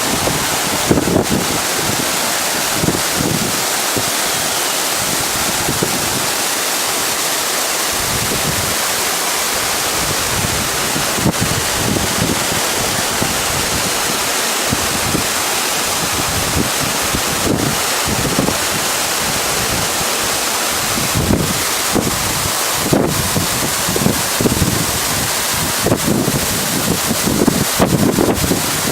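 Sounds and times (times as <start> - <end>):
wind buffeting microphone: 0.0 - 6.5, 8.0 - 8.9, 9.6 - 28.9
waterfall rushing: 0.0 - 28.9.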